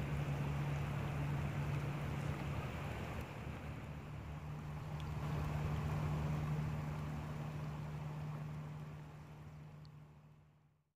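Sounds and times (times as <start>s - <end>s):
floodwater rushing: 0.0s - 10.5s.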